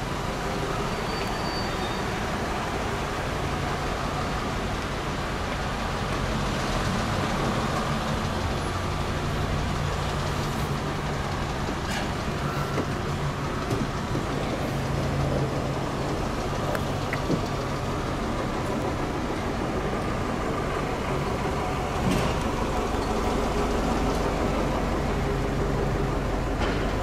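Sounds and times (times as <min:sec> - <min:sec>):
background rush: 0:00.0 - 0:27.0
low engine drone: 0:00.0 - 0:27.0.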